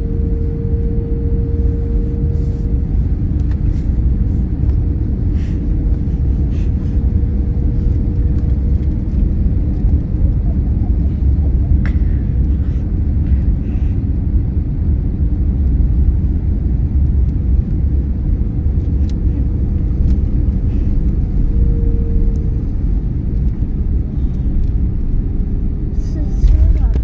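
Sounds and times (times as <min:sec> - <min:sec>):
airliner rumble: 0:00.0 - 0:27.0
faint steady hum: 0:00.0 - 0:27.0.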